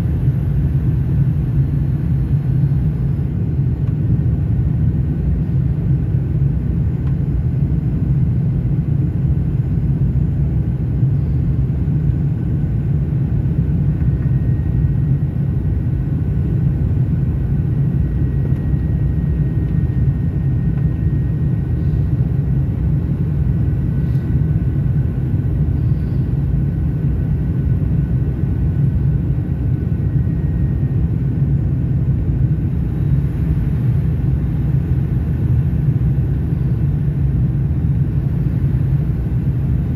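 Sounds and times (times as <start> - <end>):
airliner cabin rumble: 0.0 - 39.9
faint high steady whine: 0.0 - 39.9.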